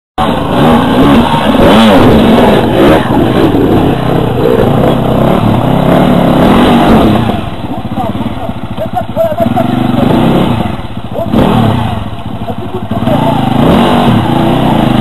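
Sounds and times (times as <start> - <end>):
dirt bike engines revving: 0.2 - 15.0.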